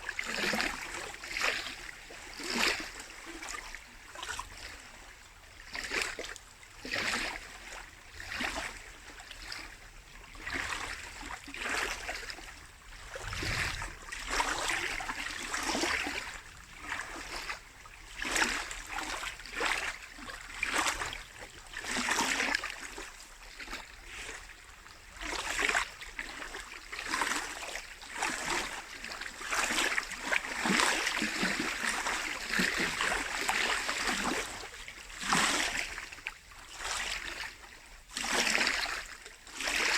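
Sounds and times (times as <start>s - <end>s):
lake waves lapping at shore: 0.0s - 39.9s.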